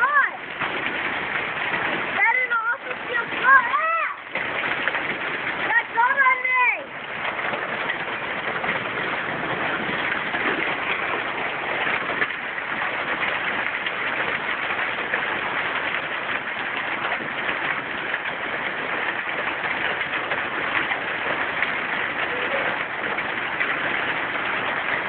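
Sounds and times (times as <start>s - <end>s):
hail falling: 0.0s - 25.0s.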